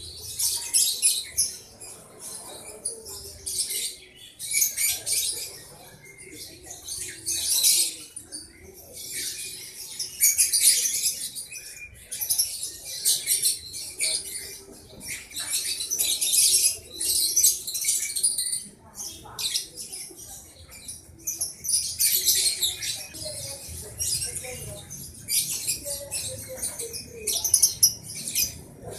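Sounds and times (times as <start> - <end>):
birds chattering: 0.0 - 28.9.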